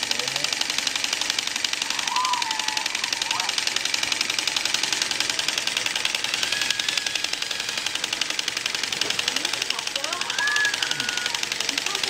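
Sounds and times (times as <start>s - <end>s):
toy air compressor clattering: 0.0s - 12.0s.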